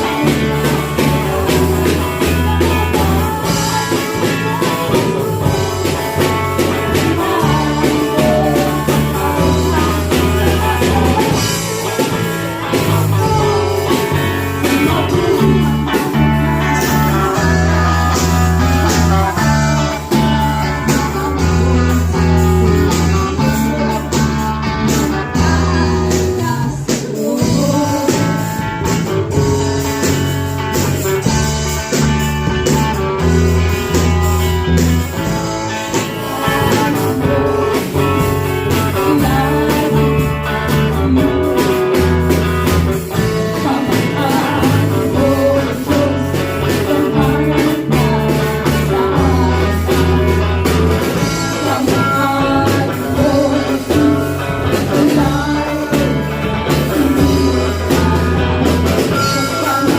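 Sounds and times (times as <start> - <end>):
person singing: 0.0 - 30.2, 30.8 - 59.9
bass line: 0.0 - 59.9
drums: 0.0 - 59.9
guitar: 0.0 - 59.9.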